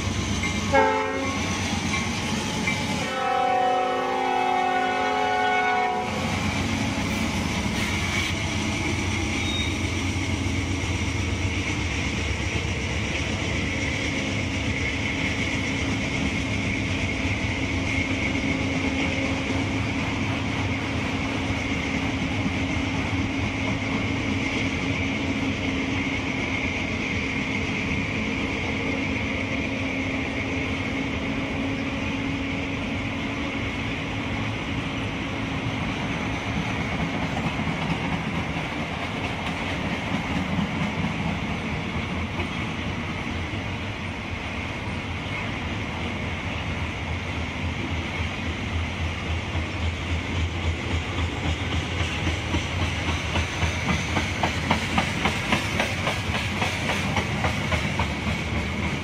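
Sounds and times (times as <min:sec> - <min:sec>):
steel wheels on rails: 0:00.0 - 0:59.0.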